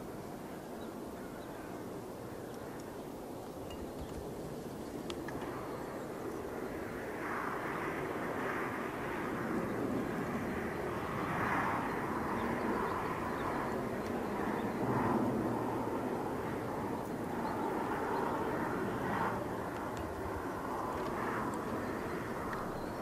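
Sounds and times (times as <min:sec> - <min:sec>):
turboprop aircraft drone: 0:00.0 - 0:23.0.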